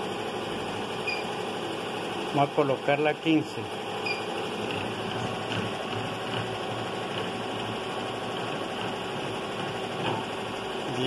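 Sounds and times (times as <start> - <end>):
embroidery machine humming: 0.0 - 11.0.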